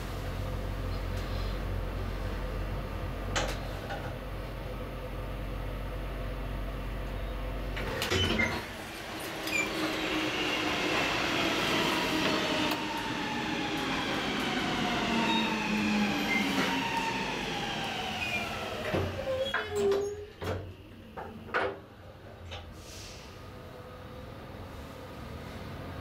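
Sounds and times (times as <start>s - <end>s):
elevator low hum: 0.0s - 22.6s
metro train slowing with whine: 0.0s - 26.0s.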